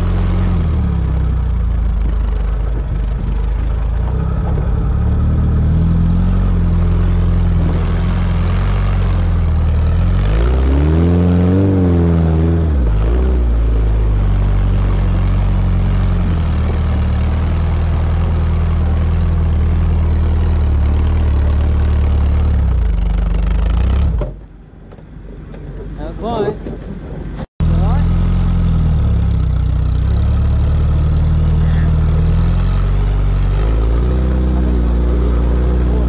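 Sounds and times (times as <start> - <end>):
car engine running at low revs: 0.0 - 36.0.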